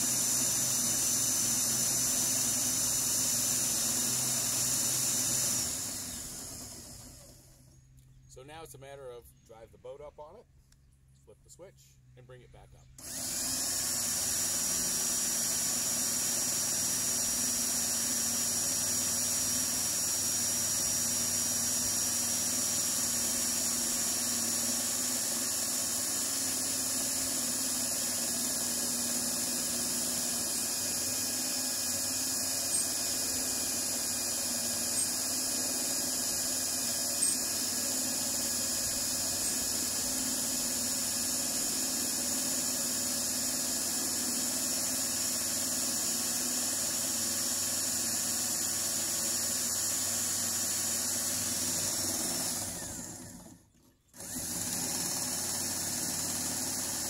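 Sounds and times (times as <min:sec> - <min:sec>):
electric drill whining: 0:00.0 - 0:07.8, 0:13.0 - 0:53.6, 0:54.2 - 0:57.0.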